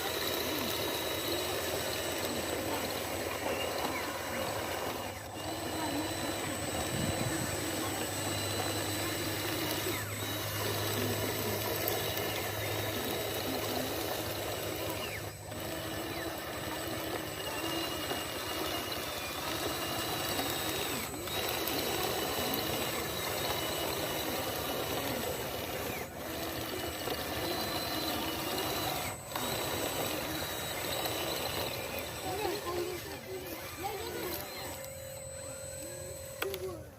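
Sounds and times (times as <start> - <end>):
small electric motors whirring: 0.0 - 36.9.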